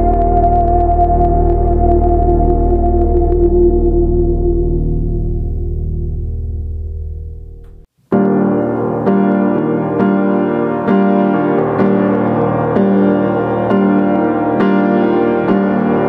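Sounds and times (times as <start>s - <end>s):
low sustained ambient tone: 0.0s - 16.0s
piano notes: 0.0s - 16.0s.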